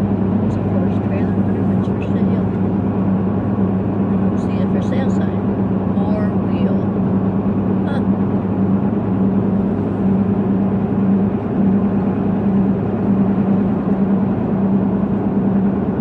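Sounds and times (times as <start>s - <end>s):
truck engine hum: 0.0s - 16.0s.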